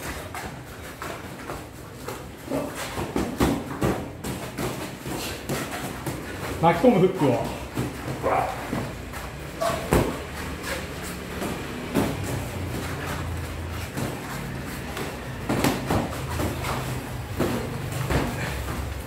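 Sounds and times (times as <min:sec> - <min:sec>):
boxing gloves slapping: 0:00.0 - 0:19.0.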